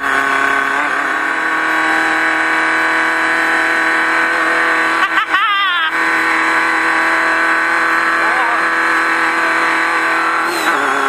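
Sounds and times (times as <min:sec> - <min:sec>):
race car engine running: 0:00.0 - 0:11.0.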